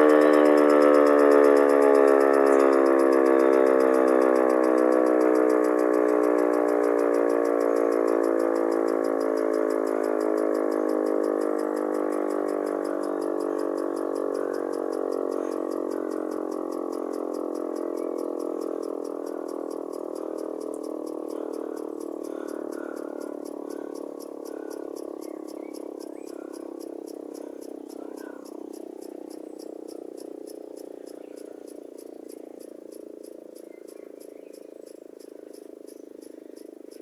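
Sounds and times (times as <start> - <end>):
siren winding down: 0.0 - 33.4.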